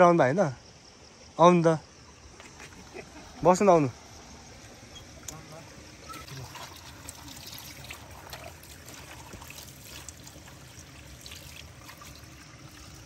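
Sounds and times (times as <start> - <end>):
water trickling: 1.1 - 13.0.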